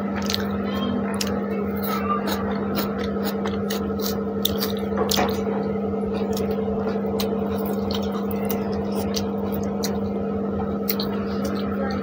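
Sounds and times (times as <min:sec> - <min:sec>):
chewing and lip smacks: 0:00.2 - 0:00.5, 0:01.1 - 0:05.5, 0:06.1 - 0:10.1, 0:10.8 - 0:12.0.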